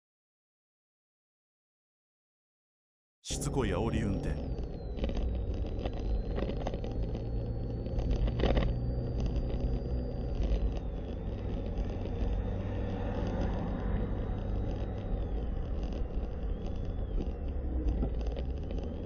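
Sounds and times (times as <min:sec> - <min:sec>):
car engine and road rumble: 0:03.3 - 0:19.0.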